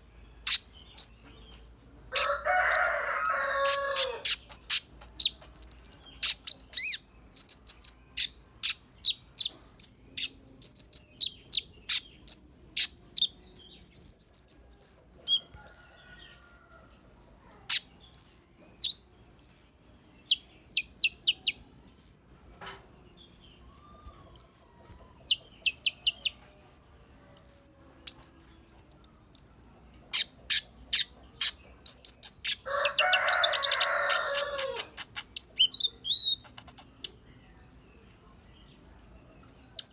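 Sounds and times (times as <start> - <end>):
songbird chirping song: 0.0 - 39.9.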